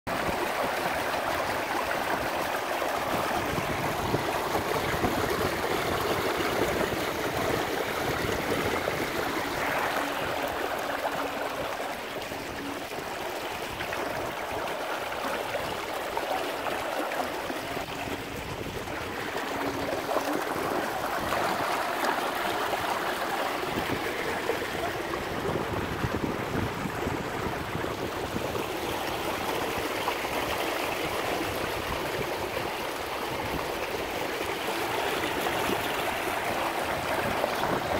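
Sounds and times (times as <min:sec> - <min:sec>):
water rushing from boat wake: 0:00.1 - 0:37.9.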